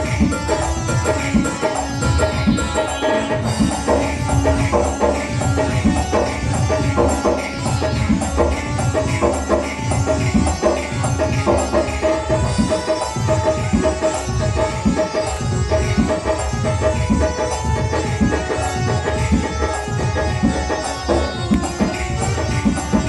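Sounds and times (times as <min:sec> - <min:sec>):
sustained melody: 0:00.0 - 0:23.0.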